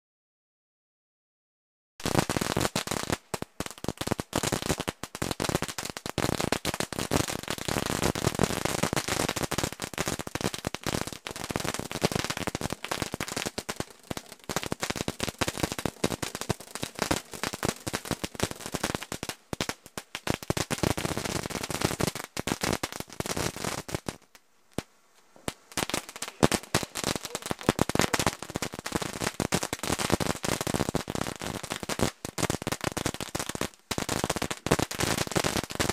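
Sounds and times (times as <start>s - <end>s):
fireworks bangs and crackles: 2.0s - 35.9s.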